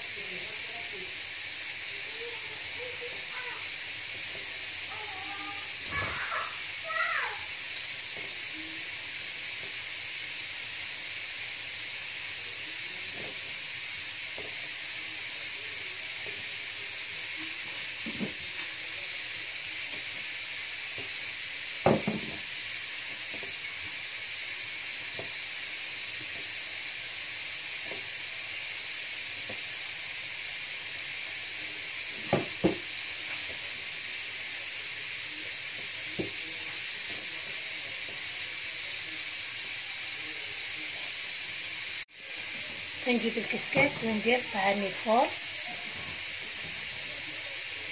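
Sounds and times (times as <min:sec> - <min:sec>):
pressure cooker steam hissing: 0:00.0 - 0:47.9.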